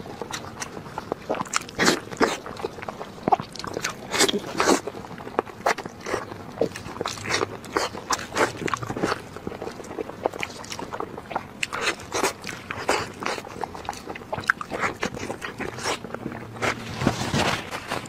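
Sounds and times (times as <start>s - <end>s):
wet chewing mouth smacks: 0.2s - 16.8s.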